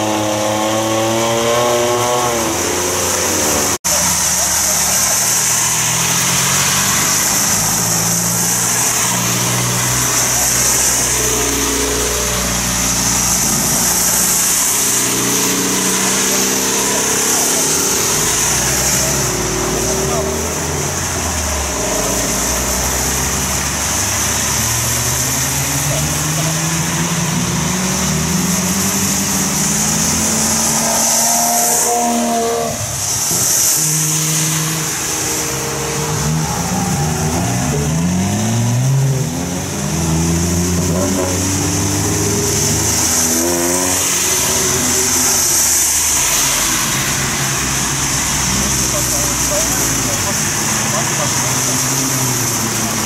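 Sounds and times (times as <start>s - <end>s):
car engines accelerating past: 0.0s - 53.0s
rain hiss: 0.0s - 53.0s
tyres on wet road: 0.0s - 53.0s.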